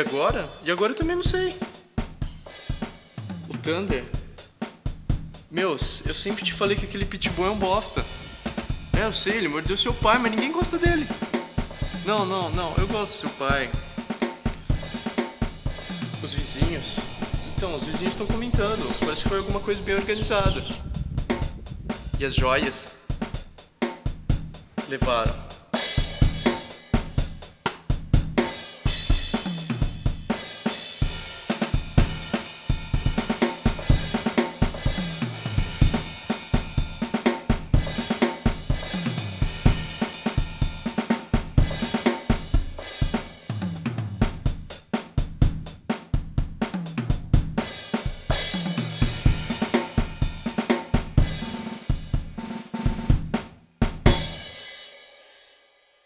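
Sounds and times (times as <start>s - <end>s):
music with fast drum beat: 0.0s - 55.8s.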